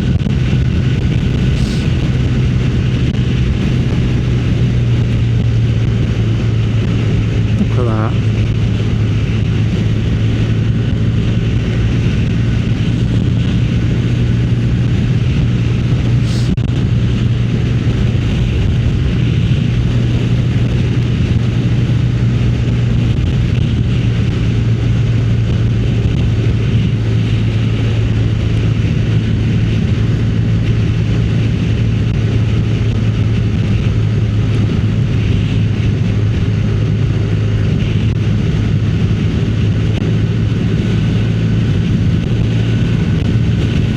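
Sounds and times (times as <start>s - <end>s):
motorcycle engine cruising: 0.0s - 43.9s
wind rushing over microphone: 0.0s - 43.9s.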